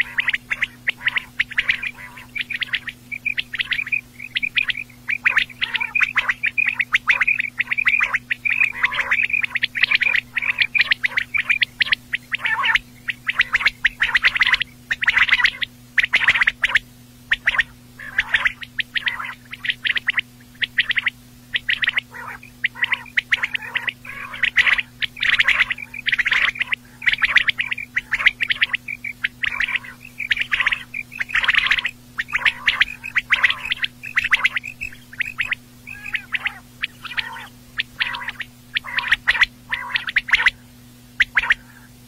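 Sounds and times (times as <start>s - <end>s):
quail calling: 0.0s - 40.6s, 41.2s - 42.0s
faint low hum: 0.0s - 42.0s.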